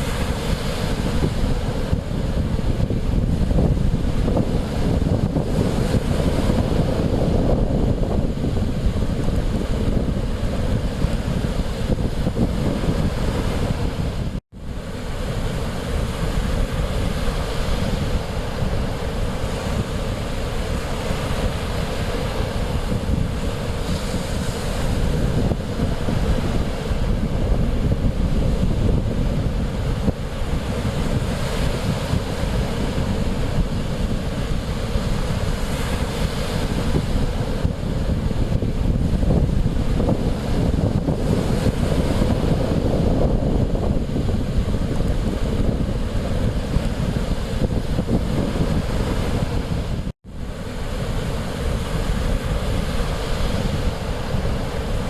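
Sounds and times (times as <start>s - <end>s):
sea waves washing ashore: 0.0s - 55.0s
wind buffeting microphone: 0.0s - 55.0s.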